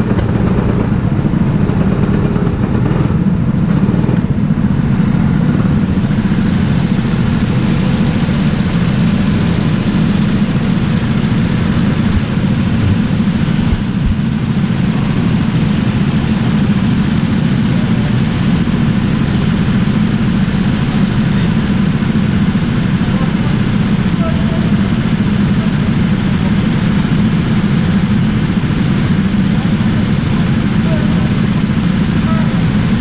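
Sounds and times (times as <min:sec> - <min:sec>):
go-kart engine running: 0:00.0 - 0:33.0.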